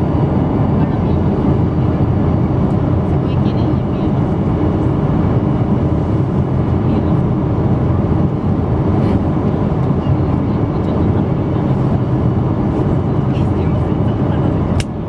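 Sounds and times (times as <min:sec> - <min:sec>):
airplane engines rumbling: 0:00.0 - 0:15.0.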